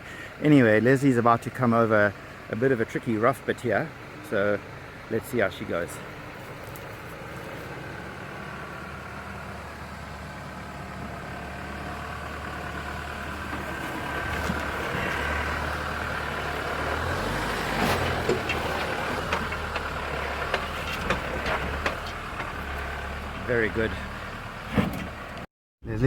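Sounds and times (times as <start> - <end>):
vehicle engine at low revs: 0.0 - 26.0.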